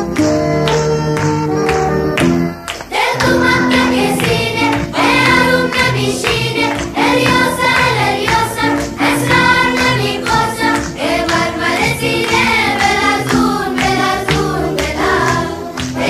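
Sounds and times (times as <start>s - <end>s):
rhythmic instrumental backing: 0.0s - 16.0s
chorus singing in unison: 2.9s - 16.0s.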